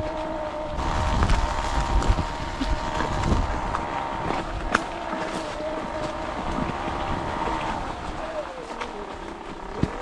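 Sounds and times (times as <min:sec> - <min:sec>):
wind rumbling on microphone: 0:00.0 - 0:10.0
footsteps in dry leaves: 0:00.3 - 0:09.6.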